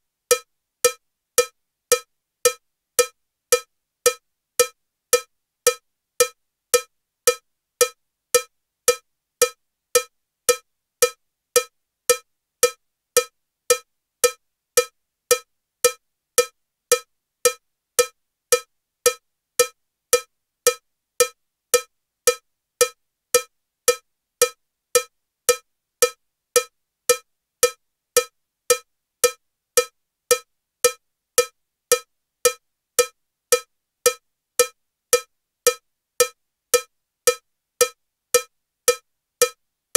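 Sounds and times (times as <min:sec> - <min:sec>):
metronome cowbell ticking: 0:00.3 - 0:16.0, 0:19.6 - 0:39.6.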